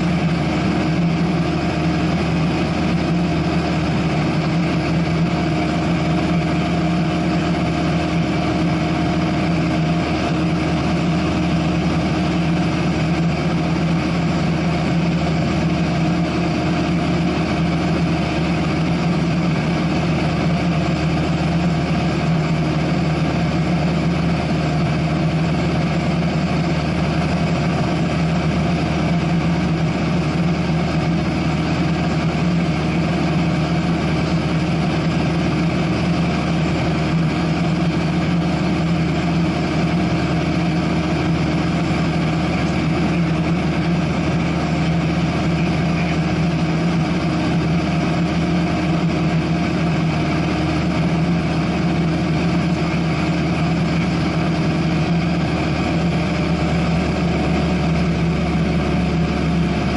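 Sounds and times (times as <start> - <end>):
plane engine drone from cockpit: 0.0 - 59.9.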